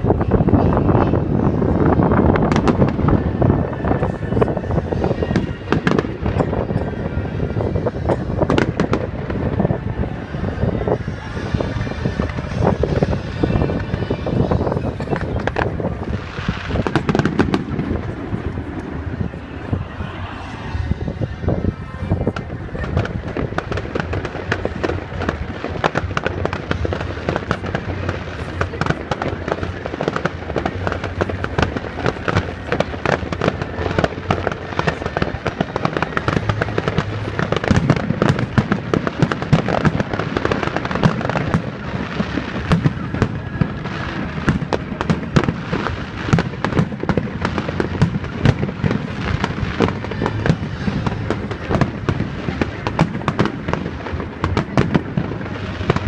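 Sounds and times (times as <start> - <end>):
fireworks barrage: 0.0 - 56.0.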